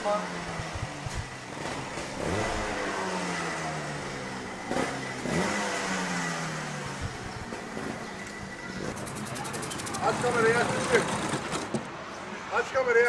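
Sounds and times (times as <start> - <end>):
kart engines revving: 0.0 - 12.4.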